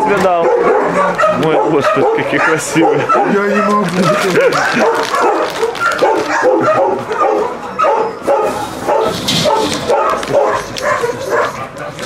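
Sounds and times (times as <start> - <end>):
many dogs barking: 0.0 - 12.0.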